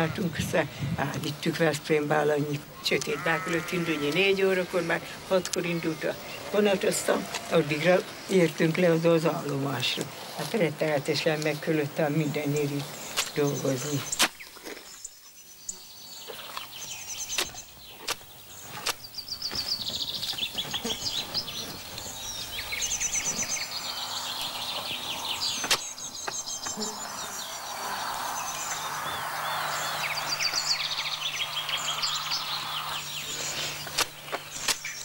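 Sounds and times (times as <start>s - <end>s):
small birds singing: 0.0s - 35.0s.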